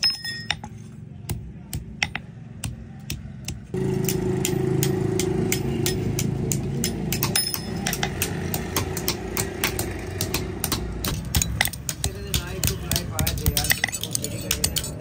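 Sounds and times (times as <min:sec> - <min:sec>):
sharp metallic clicks and knocks: 0:00.0 - 0:15.0.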